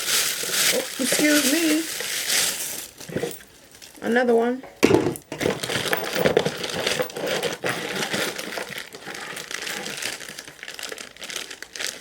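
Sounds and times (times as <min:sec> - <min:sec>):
packaging crinkling: 0:00.0 - 0:04.0, 0:05.5 - 0:12.0.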